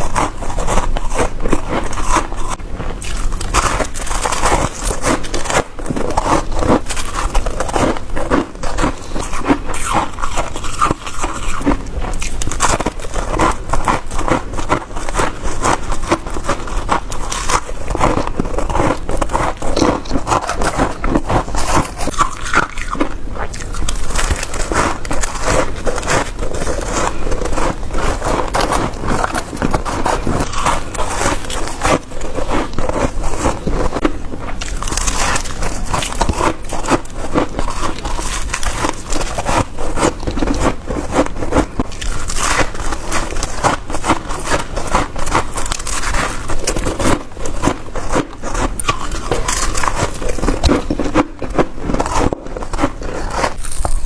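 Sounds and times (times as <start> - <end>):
frost being chewed: 0.0 - 54.0.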